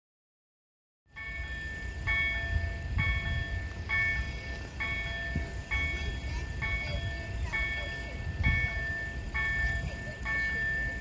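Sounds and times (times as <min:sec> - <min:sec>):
level crossing warning chime: 0:01.1 - 0:11.0.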